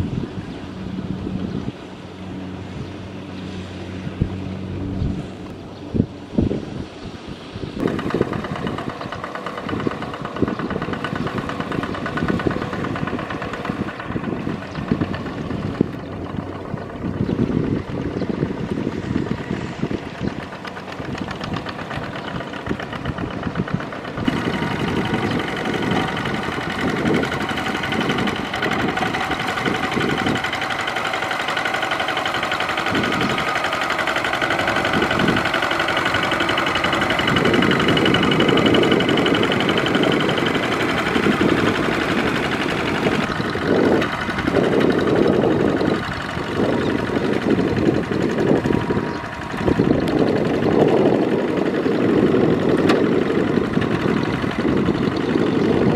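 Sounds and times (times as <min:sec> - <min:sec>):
diesel tractor engine running: 0:00.0 - 0:55.9
wheels churning through water: 0:00.0 - 0:55.9.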